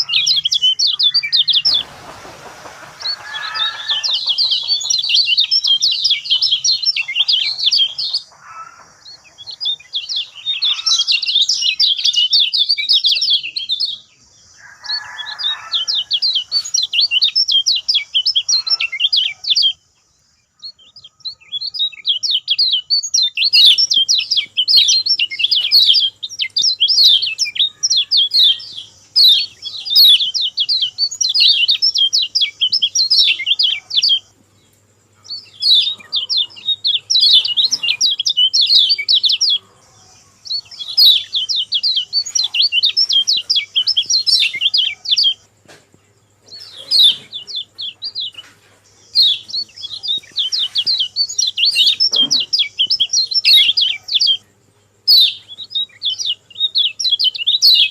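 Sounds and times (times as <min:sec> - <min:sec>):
bird singing chattering song: 0:00.0 - 0:57.9.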